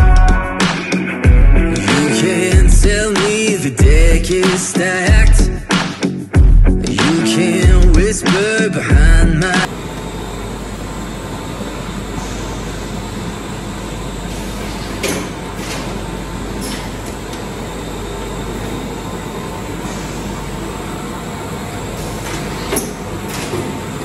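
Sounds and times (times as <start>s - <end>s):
factory machinery humming: 0.0s - 5.8s, 6.9s - 24.0s.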